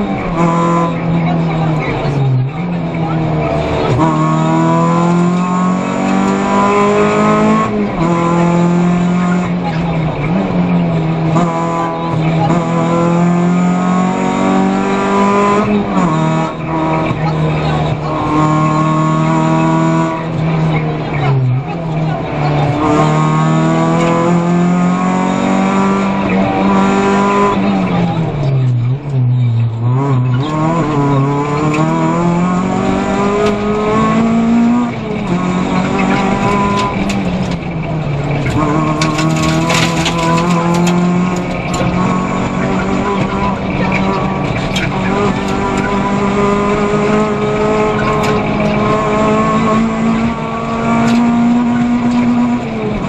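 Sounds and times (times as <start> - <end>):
rally car engine at high revs: 0.0 - 53.0.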